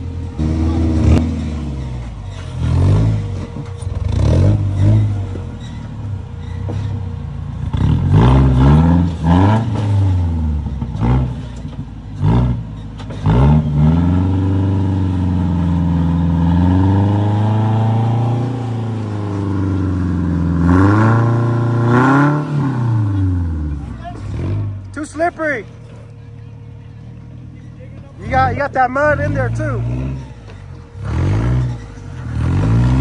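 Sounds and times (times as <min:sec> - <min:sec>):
buggy engine revving: 0:00.0 - 0:33.0.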